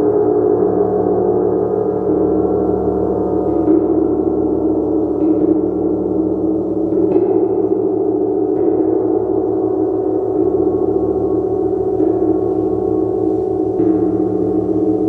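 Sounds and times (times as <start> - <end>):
large gong shimmering: 0.0 - 15.0.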